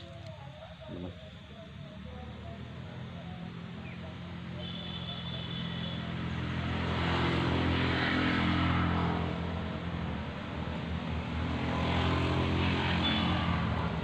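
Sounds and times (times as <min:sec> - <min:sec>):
engine droning hum: 0:00.0 - 0:14.0.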